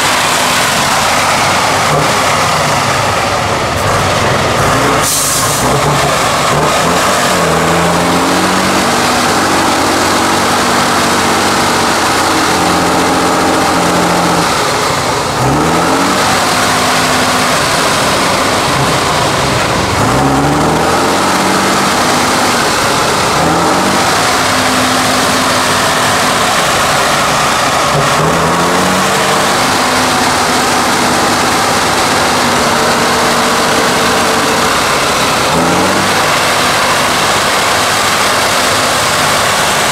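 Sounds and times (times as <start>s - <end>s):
truck diesel engine revving: 0.0s - 39.9s.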